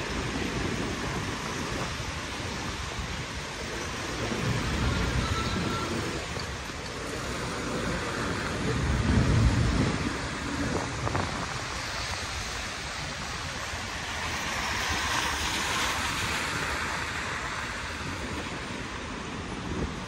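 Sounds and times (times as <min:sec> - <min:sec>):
tyres hissing on wet road: 0:00.0 - 0:20.0.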